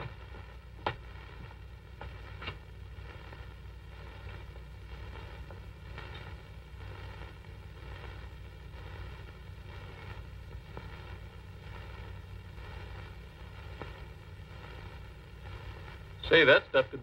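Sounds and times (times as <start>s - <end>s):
film soundtrack hum and hiss: 0.0s - 17.0s.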